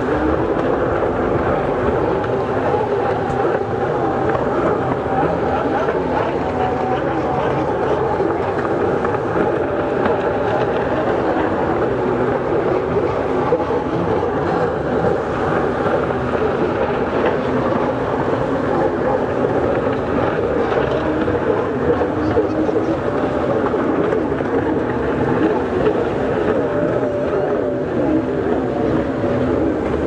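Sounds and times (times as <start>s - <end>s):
jet ski engines droning: 0.0s - 30.0s.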